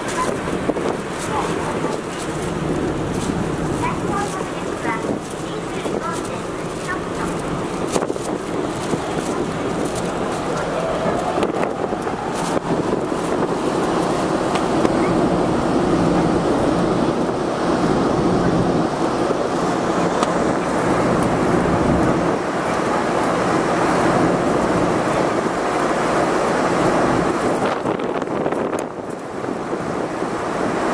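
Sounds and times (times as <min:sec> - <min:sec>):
ship engines humming: 0:00.0 - 0:30.9
wind rushing over microphone: 0:00.0 - 0:30.9.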